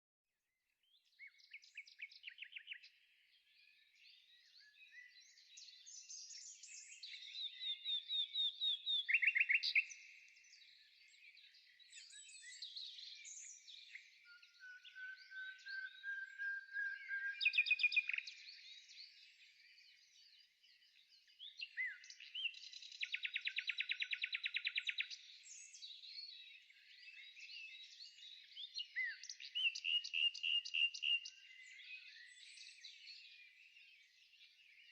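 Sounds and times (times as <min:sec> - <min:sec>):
songbirds singing: 0:00.8 - 0:34.9.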